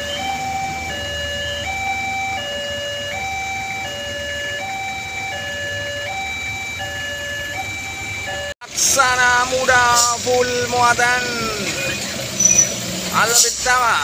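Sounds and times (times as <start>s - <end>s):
two-tone warning alarm: 0.0s - 14.0s.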